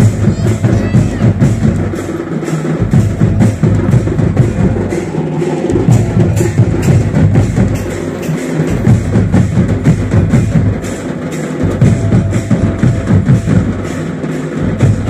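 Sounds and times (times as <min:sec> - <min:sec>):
hand drums beating: 0:00.0 - 0:15.0.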